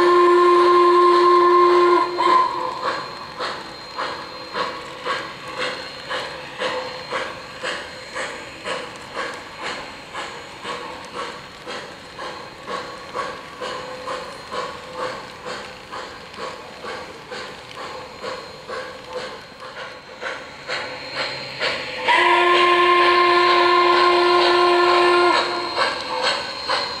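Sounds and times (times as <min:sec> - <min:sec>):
model steam train running on track: 0:00.0 - 0:27.0.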